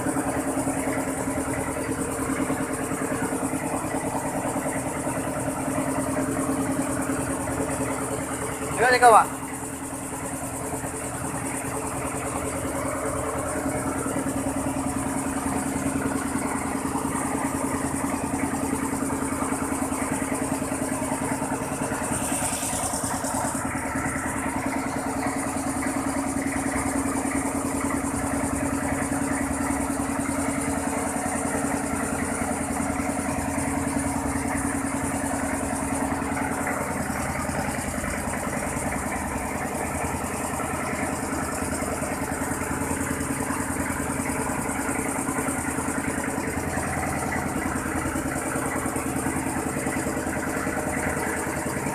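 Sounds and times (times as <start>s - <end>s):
rice mill engine drone: 0.0s - 51.9s.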